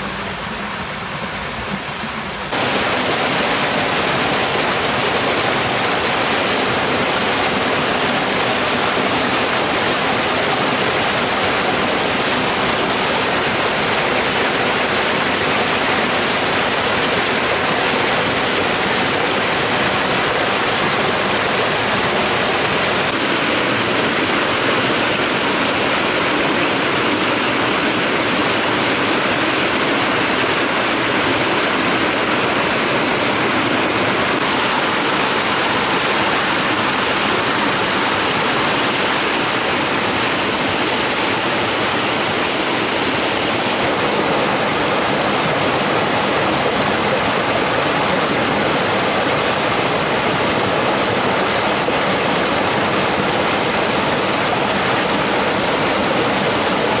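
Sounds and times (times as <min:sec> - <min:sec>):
water rushing over a dam: 0:00.0 - 0:57.0.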